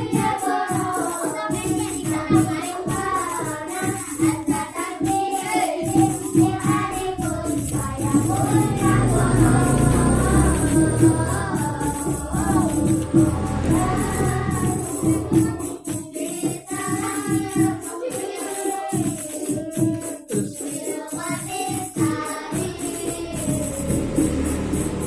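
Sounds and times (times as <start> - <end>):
singing over a steady beat: 0.0 - 25.0.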